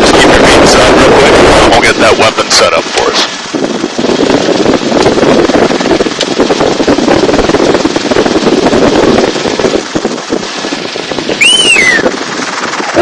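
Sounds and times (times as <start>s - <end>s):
helicopter rotor and engine: 0.0s - 13.0s
wind buffeting microphone: 0.0s - 13.0s.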